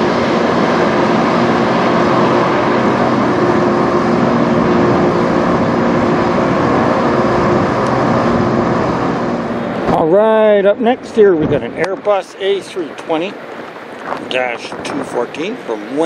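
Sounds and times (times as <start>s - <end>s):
jet engines roaring overhead: 0.0s - 16.0s.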